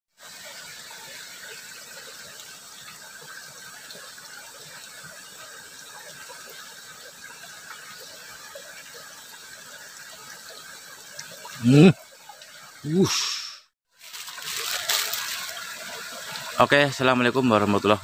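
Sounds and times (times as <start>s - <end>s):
stream trickling and babbling: 0.1s - 18.0s.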